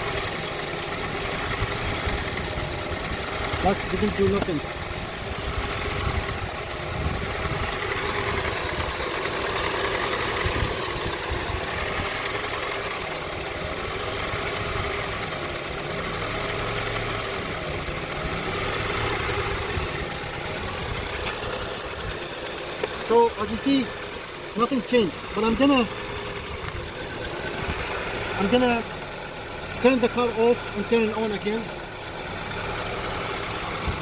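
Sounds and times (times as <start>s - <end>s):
car engine idling roughly: 0.0s - 34.0s.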